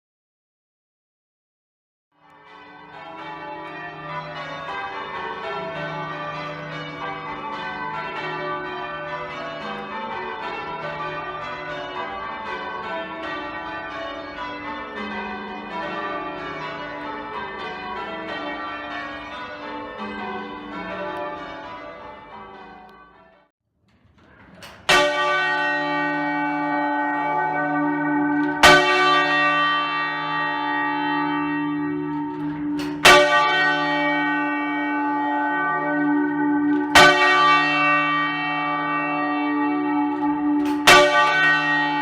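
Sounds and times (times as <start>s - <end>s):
church bells change ringing: 2.2s - 23.5s, 24.6s - 42.0s.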